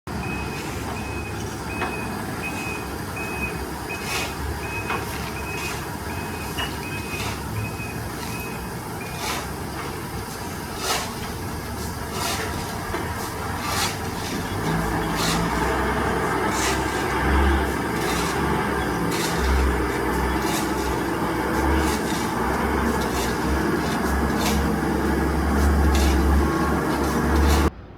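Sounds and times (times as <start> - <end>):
truck reversing alarm beeping: 0.1 - 27.7
truck engine running: 0.1 - 27.9.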